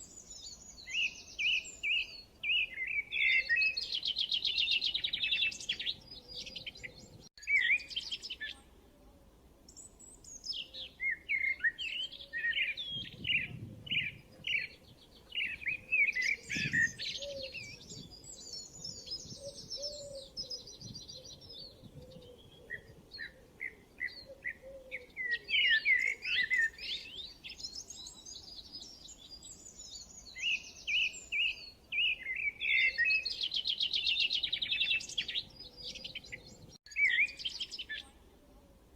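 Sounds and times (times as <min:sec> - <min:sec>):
songbirds chirping and singing: 0:00.0 - 0:08.8, 0:09.7 - 0:38.4.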